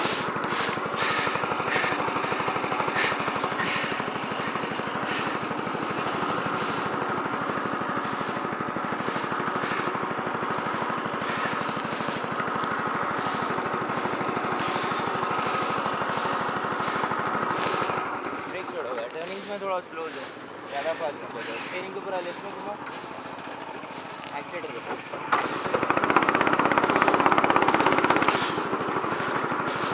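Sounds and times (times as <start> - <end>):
go-kart engine running high: 0.0 - 29.9
tyre hiss from sliding kart: 0.0 - 29.9.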